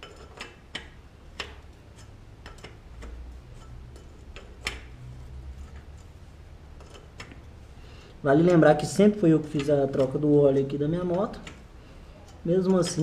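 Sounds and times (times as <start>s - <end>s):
clicks and taps on metal parts: 0.0s - 6.1s, 6.8s - 7.6s, 8.4s - 13.0s.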